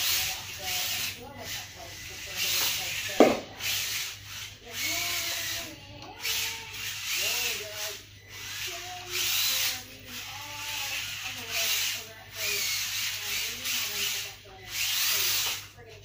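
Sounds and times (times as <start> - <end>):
small electric motor whining: 0.0 - 16.0
toy car tyres hissing: 0.0 - 16.0.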